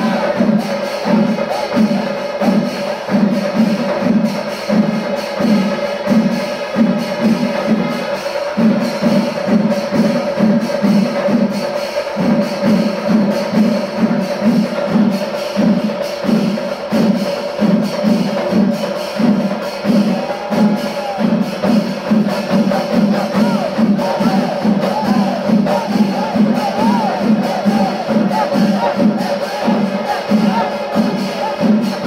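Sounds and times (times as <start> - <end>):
chenda drums beating: 0.0 - 32.0
cymbals: 0.0 - 32.0.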